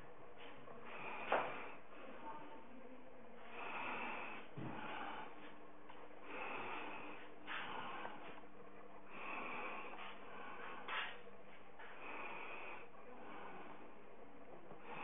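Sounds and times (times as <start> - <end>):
faint steady hum: 0.0 - 15.0
person breathing: 0.7 - 2.4, 3.4 - 8.4, 9.0 - 15.0.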